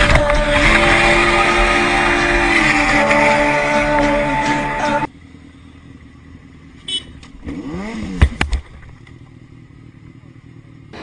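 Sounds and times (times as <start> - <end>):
motorcycle engine revving: 0.0 - 5.1, 6.9 - 11.0.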